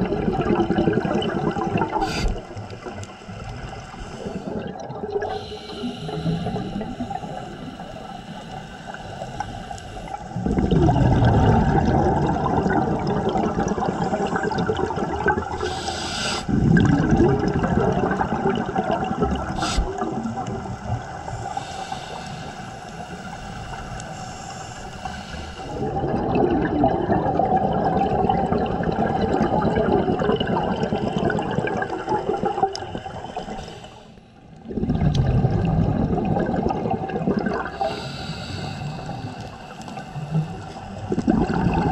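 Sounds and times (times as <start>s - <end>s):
underwater regulator bubbles: 0.0s - 41.9s.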